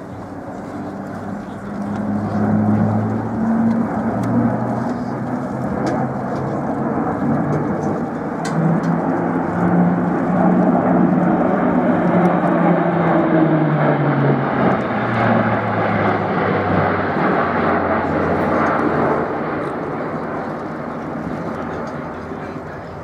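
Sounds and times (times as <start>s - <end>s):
turboprop aircraft droning: 0.0s - 23.0s.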